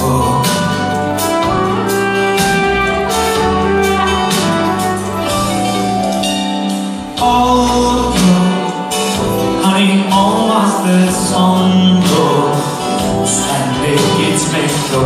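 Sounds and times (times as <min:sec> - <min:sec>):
live band playing pop: 0:00.0 - 0:15.0.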